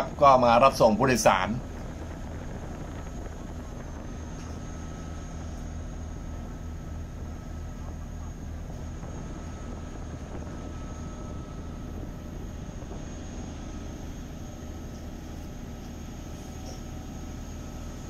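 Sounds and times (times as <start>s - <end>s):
boat diesel engine drone: 0.0s - 18.0s
faint high whine: 0.0s - 18.0s.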